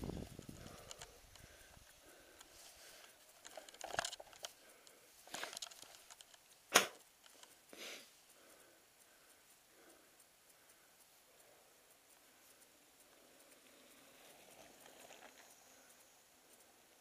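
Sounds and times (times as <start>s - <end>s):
bike rolling on dirt trail: 0.0s - 7.6s, 8.2s - 17.0s
bike clicks and rattles: 0.0s - 7.7s, 8.3s - 17.0s.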